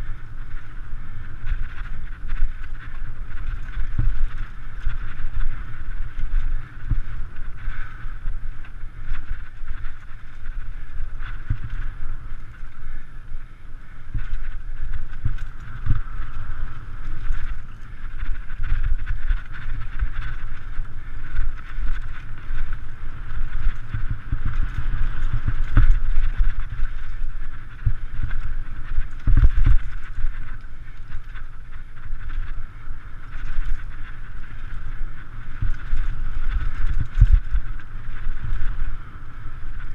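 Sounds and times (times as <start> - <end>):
bike knocking and rattling: 0.0 - 39.9
wind rumbling on microphone: 0.0 - 39.9.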